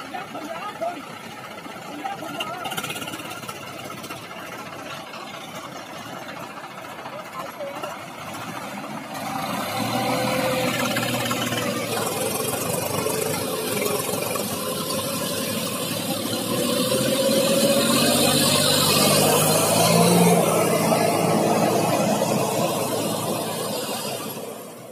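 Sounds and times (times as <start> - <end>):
tractor diesel engine labouring: 0.0 - 24.9.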